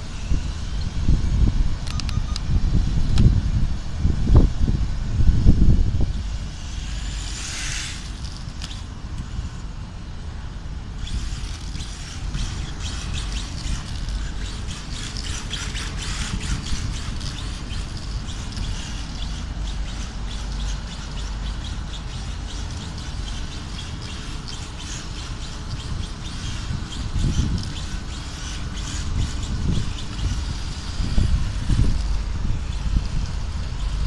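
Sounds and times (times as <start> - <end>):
steady low rumble: 0.0 - 34.0
electric motor whining: 5.2 - 9.6, 10.8 - 34.0.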